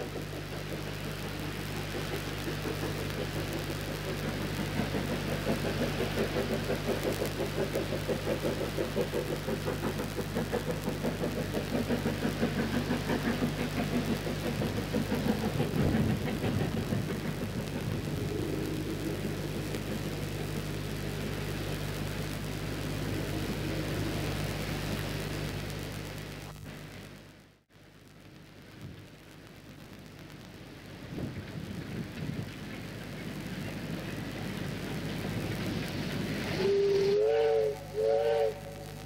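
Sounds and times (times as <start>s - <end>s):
steam locomotive chuffing: 0.0s - 25.8s, 30.9s - 39.0s
steady low hum: 0.0s - 39.0s.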